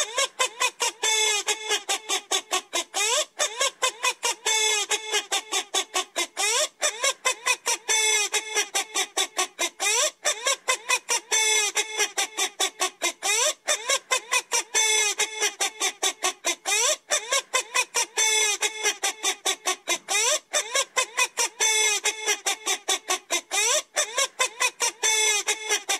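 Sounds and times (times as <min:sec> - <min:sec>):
rapid clucking calls: 0:00.0 - 0:25.9.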